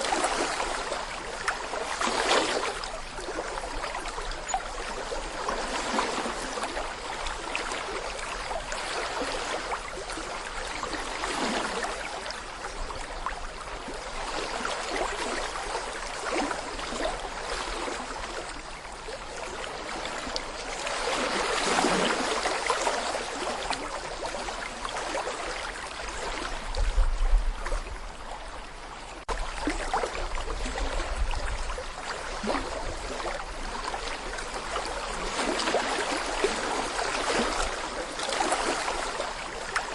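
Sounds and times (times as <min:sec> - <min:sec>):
water gurgling over stones: 0:00.0 - 0:39.9.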